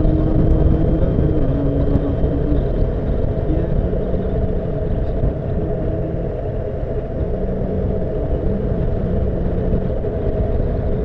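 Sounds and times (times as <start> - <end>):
motorcycle engine running: 0.0 - 11.0
wind rumble: 0.0 - 11.0.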